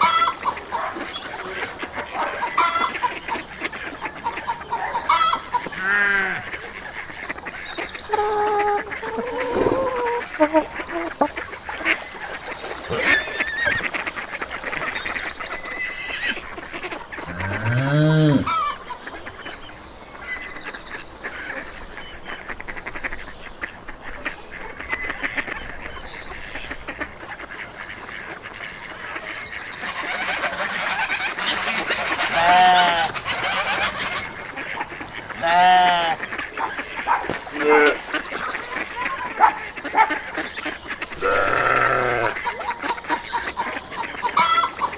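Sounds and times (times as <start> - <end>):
geese honking: 0.0 - 19.4, 22.3 - 44.9
small birds chirping: 0.0 - 44.9.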